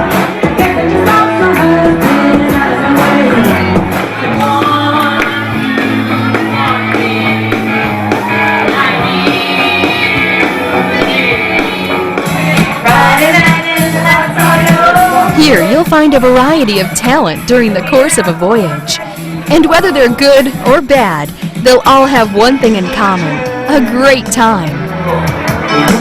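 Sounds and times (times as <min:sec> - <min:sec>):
backing track with drum beat: 0:00.0 - 0:26.0
person singing karaoke: 0:00.0 - 0:26.0.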